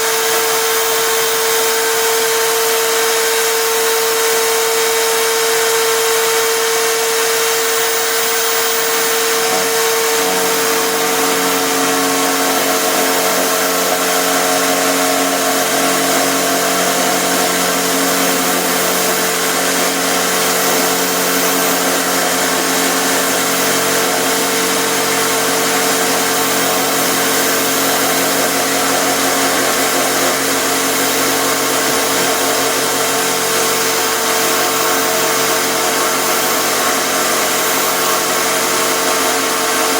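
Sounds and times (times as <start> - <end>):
electric drill running: 0.0 - 39.9.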